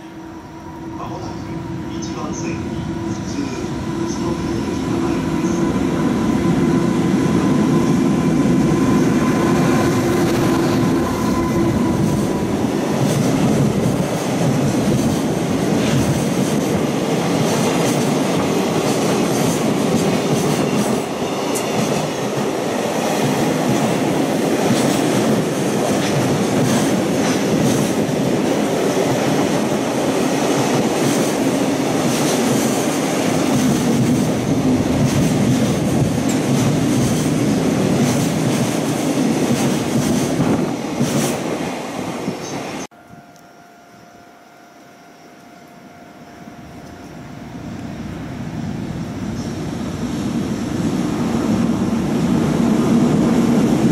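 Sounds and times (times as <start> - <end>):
electric locomotive hum: 0.0 - 53.9.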